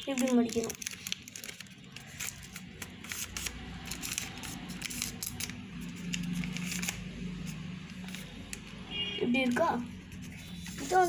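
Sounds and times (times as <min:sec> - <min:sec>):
paper being folded and creased: 0:00.0 - 0:08.7, 0:09.4 - 0:11.0.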